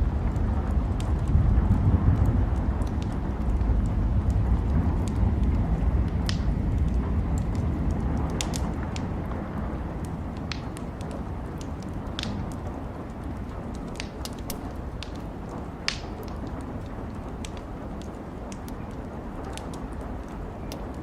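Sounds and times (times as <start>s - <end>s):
low rumble: 0.0s - 18.0s
wood fire crackling and popping: 0.0s - 21.0s.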